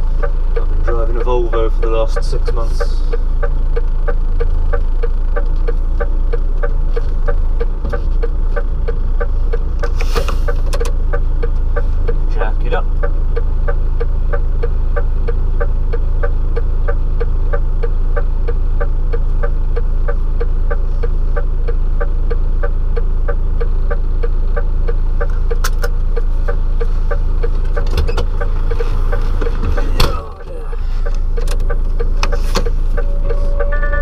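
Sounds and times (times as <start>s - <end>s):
diesel engine idling: 0.0s - 34.0s
regular engine ticking: 0.0s - 34.0s.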